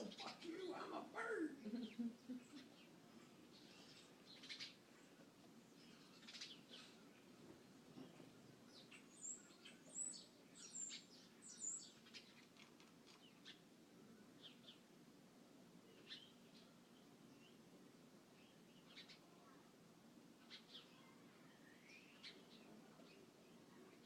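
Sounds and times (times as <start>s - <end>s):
small birds chirping faintly: 0.0s - 24.0s.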